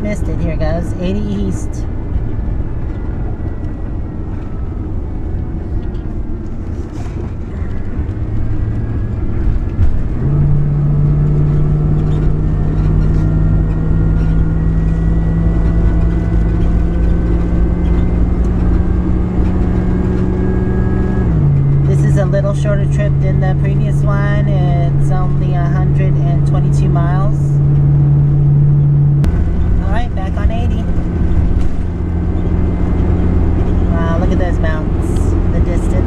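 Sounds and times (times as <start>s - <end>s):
road noise: 0.0s - 36.0s
vehicle engine accelerating: 0.0s - 36.0s.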